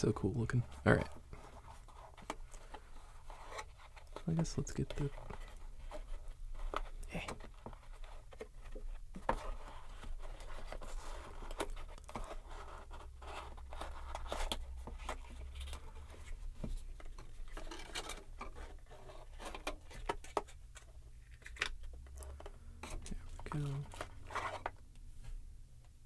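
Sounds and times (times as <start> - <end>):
cardboard packaging rustling: 0.0 - 25.4.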